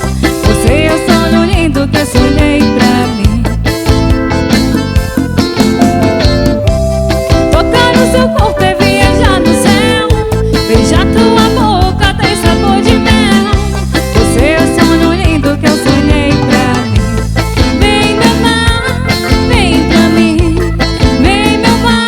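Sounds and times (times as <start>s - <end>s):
band playing dance music: 0.0s - 22.0s.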